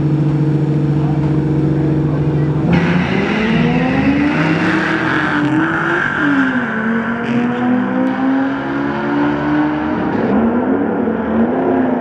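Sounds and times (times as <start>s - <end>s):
car engine revving at full throttle: 0.0s - 12.0s.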